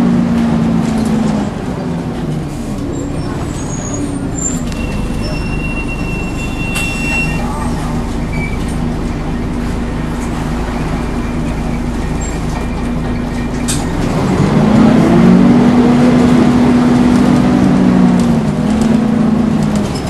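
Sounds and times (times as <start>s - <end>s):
bus engine humming: 0.0s - 20.0s.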